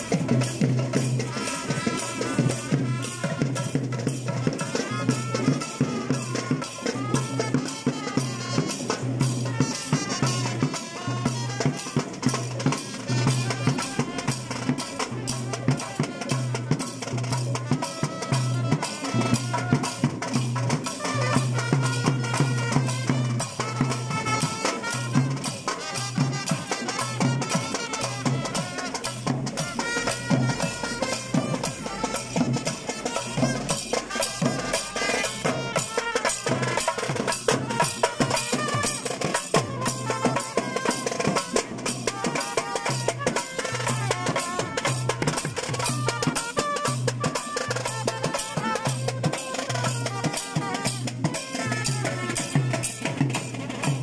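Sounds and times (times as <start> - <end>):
drums in fast dense rhythm: 0.0 - 54.0.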